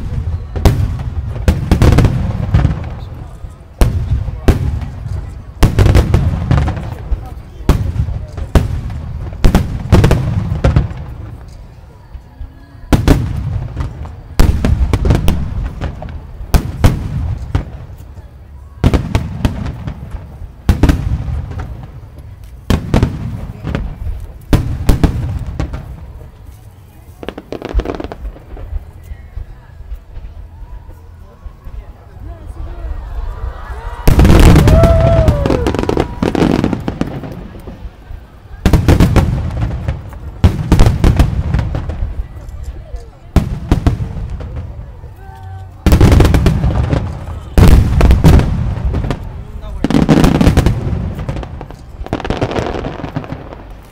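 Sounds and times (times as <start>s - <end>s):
firework crackles: 0.0s - 53.9s.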